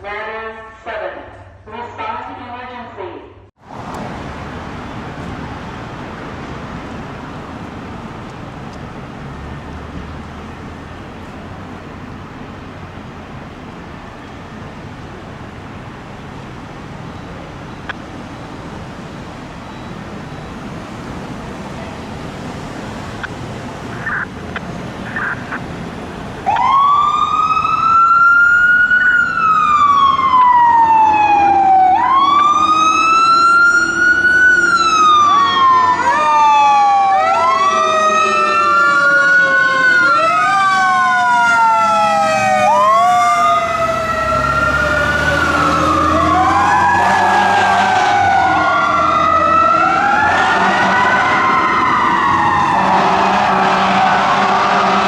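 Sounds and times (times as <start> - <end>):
fire engine sirens wailing: 3.6 - 55.0.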